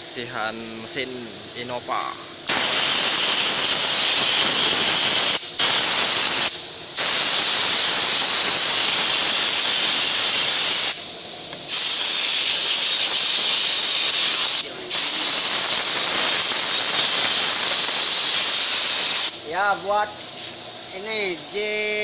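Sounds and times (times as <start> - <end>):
high-pressure spray gun hissing: 0.0 - 22.0.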